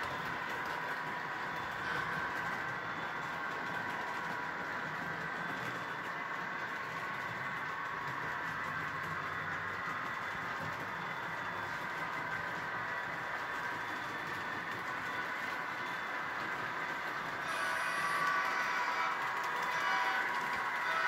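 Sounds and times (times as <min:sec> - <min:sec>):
model train running on track: 0:00.0 - 0:21.0.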